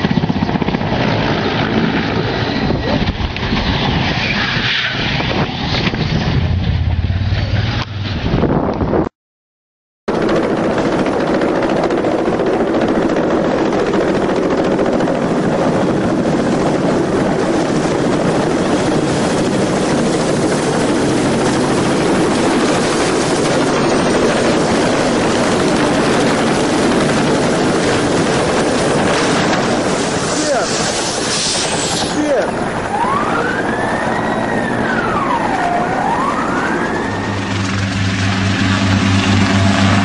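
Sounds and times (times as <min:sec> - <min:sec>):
helicopter rotor and engine: 0:00.0 - 0:09.0, 0:10.1 - 0:40.0.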